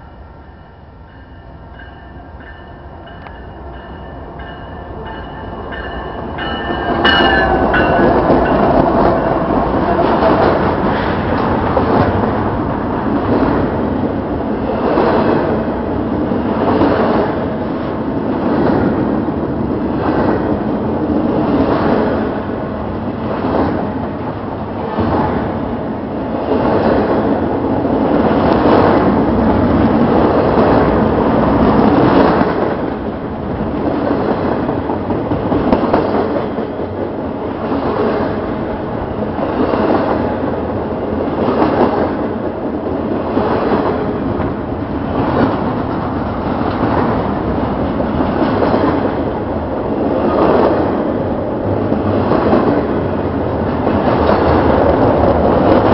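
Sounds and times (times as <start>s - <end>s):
freight train wheels rumbling: 0.0s - 55.9s
train cars clattering: 0.0s - 55.9s.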